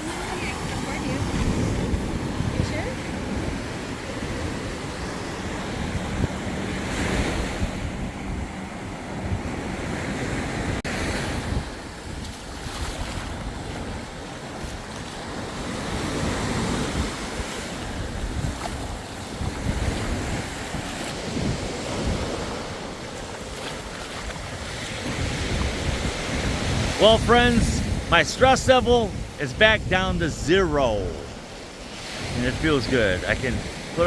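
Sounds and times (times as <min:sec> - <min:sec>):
wind buffeting microphone: 0:00.0 - 0:27.0, 0:27.6 - 0:28.1, 0:29.0 - 0:29.9
surf washing onto beach: 0:00.0 - 0:34.0.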